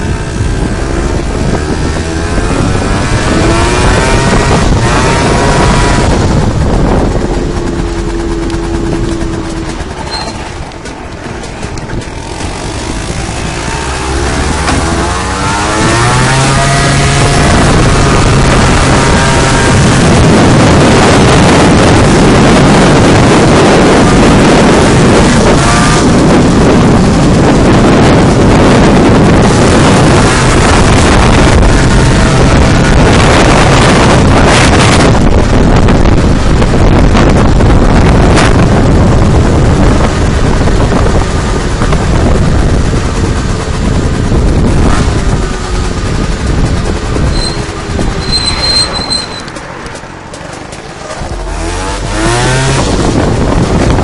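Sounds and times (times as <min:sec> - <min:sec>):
scooter engine: 0:00.0 - 0:54.0
wind rush on microphone: 0:00.0 - 0:54.0.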